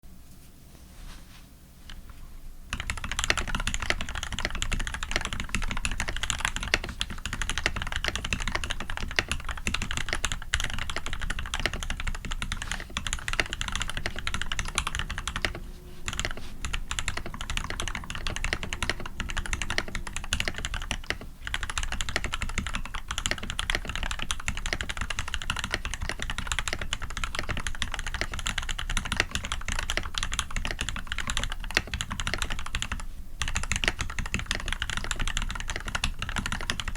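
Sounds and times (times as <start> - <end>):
mechanical keyboard typing: 2.7 - 36.9.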